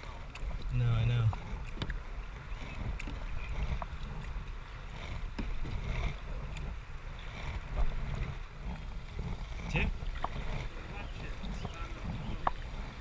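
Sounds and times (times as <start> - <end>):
paddle in water: 0.0 - 13.0
wind rumble on microphone: 0.0 - 13.0.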